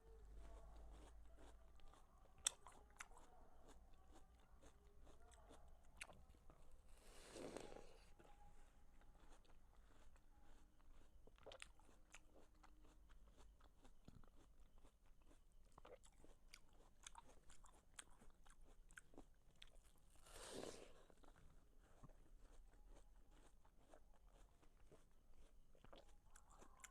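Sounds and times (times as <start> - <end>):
wet crunching and chewing: 0.1 - 26.9.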